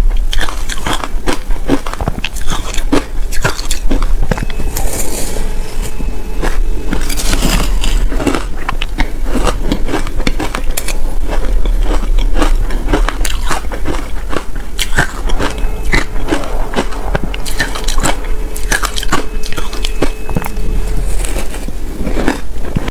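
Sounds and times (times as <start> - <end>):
chewing crunchy ice: 0.0 - 4.6, 6.4 - 22.9.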